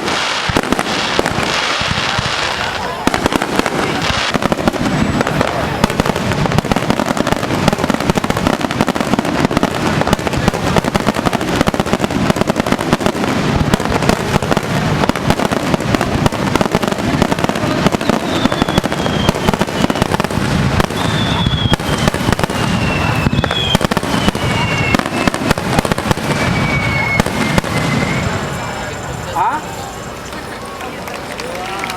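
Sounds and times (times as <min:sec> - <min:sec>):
falling firework whistles: 0:00.0 - 0:30.5
fireworks bangs and crackling: 0:00.0 - 0:31.9.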